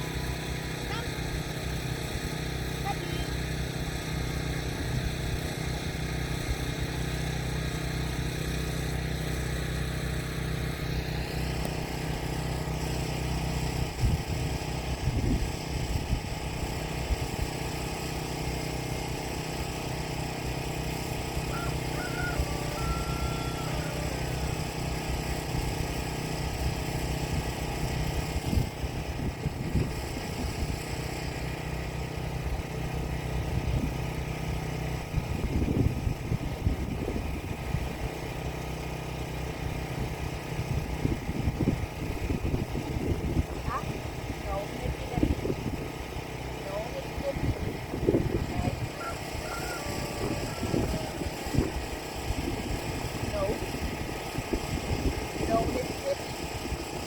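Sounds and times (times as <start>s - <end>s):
low engine-like drone: 0.0s - 57.0s.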